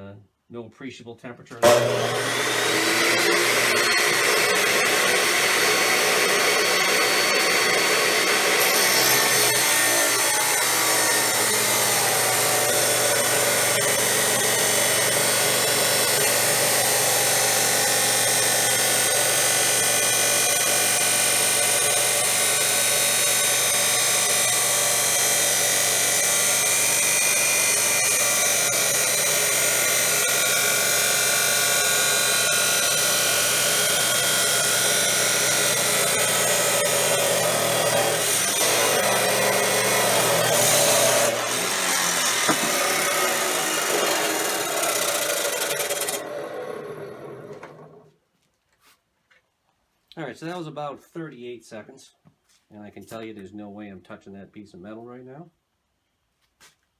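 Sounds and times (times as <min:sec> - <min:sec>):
chop saw grinding through steel: 0:01.5 - 0:48.1.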